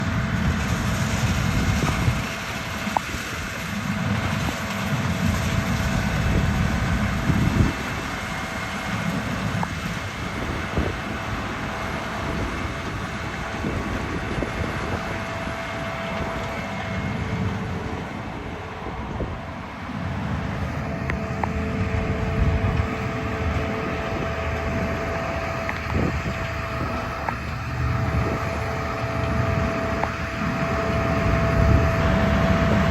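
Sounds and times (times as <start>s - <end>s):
combine harvester droning: 0.0s - 32.9s
wind buffeting microphone: 0.0s - 32.9s.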